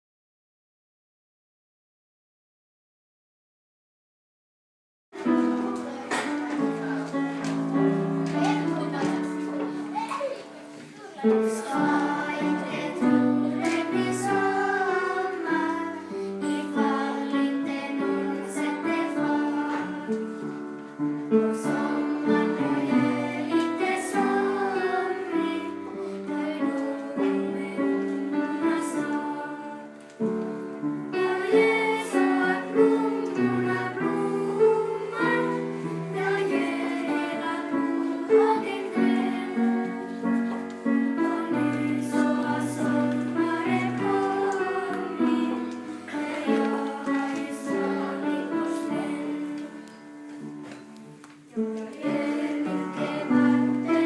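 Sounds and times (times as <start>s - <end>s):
children singing with instruments: 5.2s - 54.0s.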